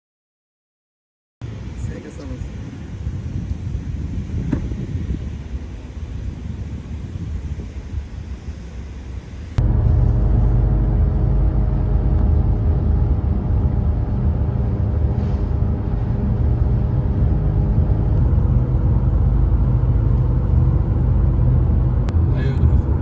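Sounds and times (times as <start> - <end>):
car engine and road rumble: 1.4 - 23.0
constant hum: 1.5 - 23.0.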